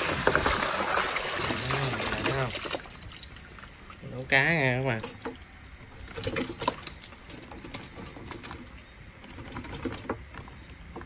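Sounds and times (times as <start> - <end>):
water dribbling and splashing: 0.0 - 11.0.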